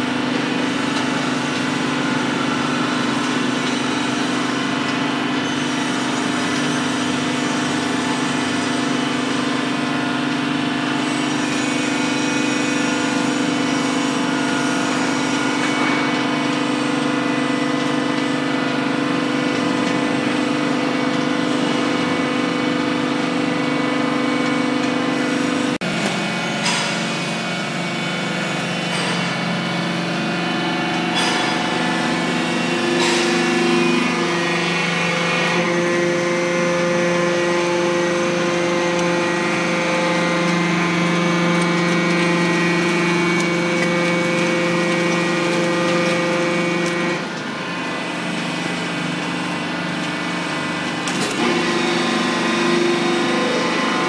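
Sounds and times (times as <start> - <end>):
hydraulic machine humming: 0.0 - 54.0.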